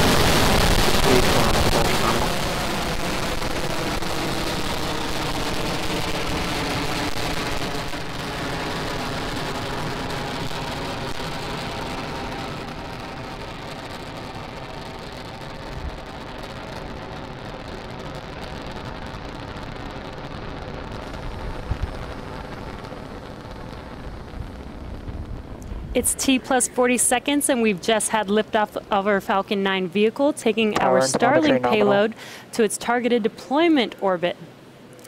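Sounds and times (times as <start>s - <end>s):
rocket engine rumble: 0.0s - 29.0s.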